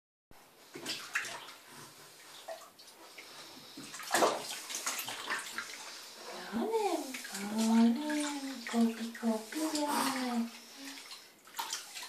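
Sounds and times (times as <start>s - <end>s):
water splashing in a baby bath: 0.7s - 12.0s.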